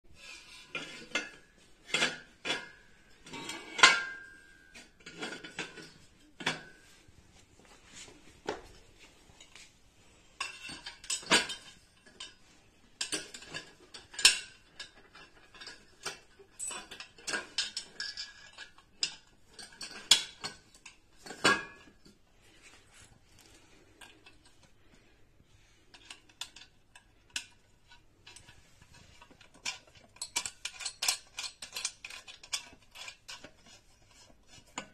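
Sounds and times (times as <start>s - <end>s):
metal pipes clinking and knocking: 0.1s - 9.6s, 10.4s - 25.1s, 25.9s - 34.9s.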